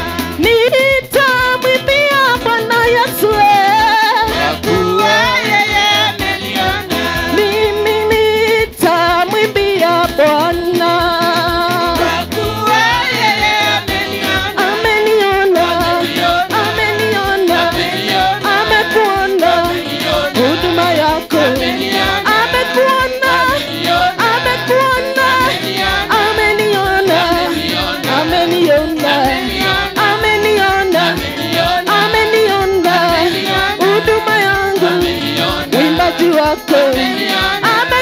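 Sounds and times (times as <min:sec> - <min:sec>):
backing singers: 0:00.0 - 0:38.0
electronic keyboard: 0:00.0 - 0:38.0
steady beat: 0:00.0 - 0:38.0
woman singing into microphone: 0:00.0 - 0:38.0.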